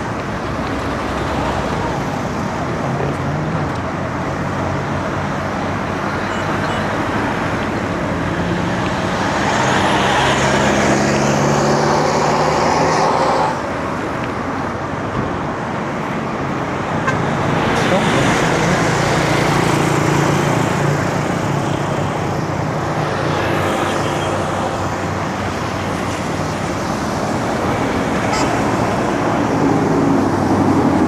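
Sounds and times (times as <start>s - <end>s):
road traffic: 0.0s - 31.0s.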